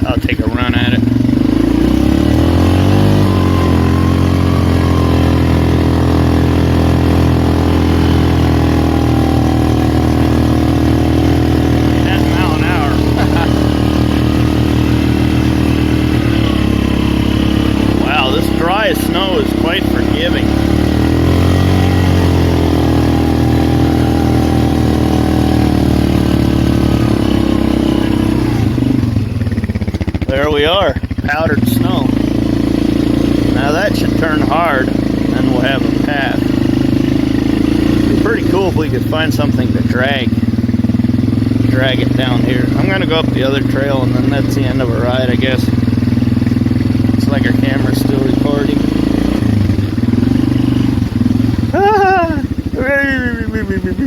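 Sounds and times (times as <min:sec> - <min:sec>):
atv engine pulling under load: 0:00.0 - 0:54.0.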